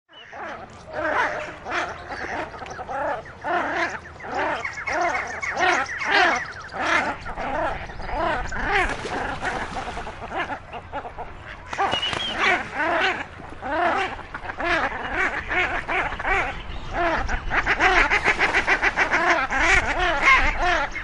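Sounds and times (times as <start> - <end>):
ducks squabbling calls: 0.1 - 21.0.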